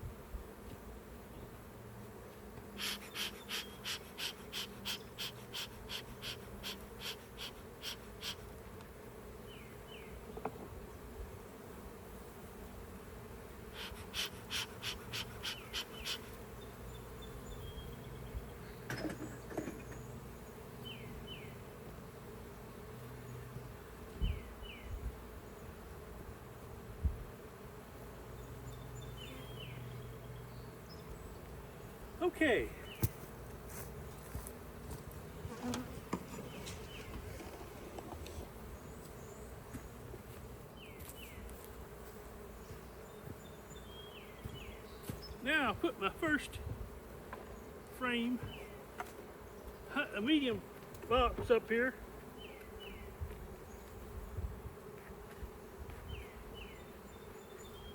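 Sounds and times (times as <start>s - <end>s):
honeybees buzzing: 0.0s - 57.9s.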